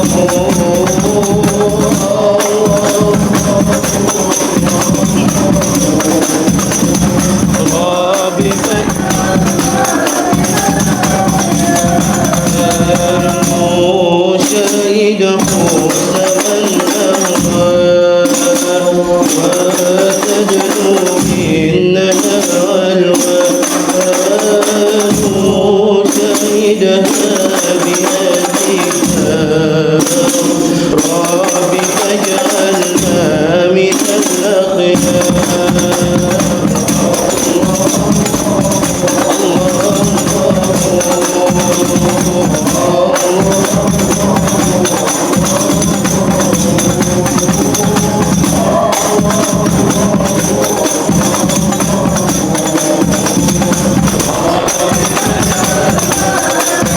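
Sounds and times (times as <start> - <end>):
frame drums: 0.0 - 56.9
jingling tambourine: 0.0 - 56.9
person singing melody: 0.0 - 56.9.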